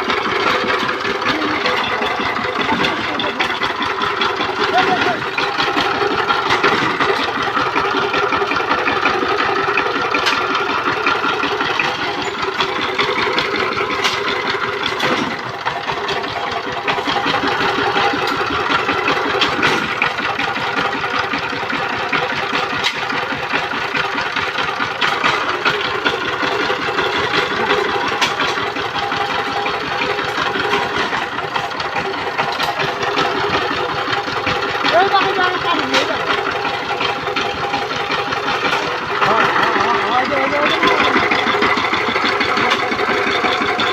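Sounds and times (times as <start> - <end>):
tiller diesel engine running: 0.0 - 43.9.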